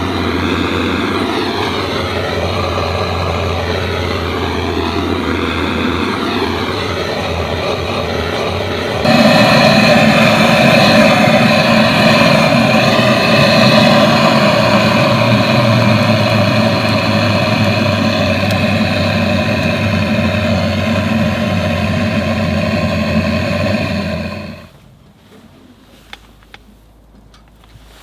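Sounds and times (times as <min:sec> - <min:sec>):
gas torch jet hiss: 0:00.0 - 0:24.7.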